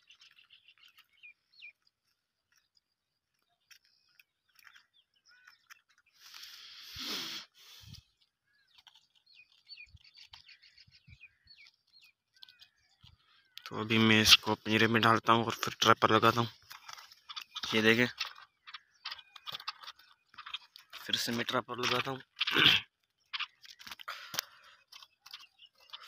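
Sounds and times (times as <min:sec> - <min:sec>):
handling rustle: 0:00.0 - 0:14.9, 0:15.5 - 0:26.0
birds chirping: 0:00.0 - 0:26.0.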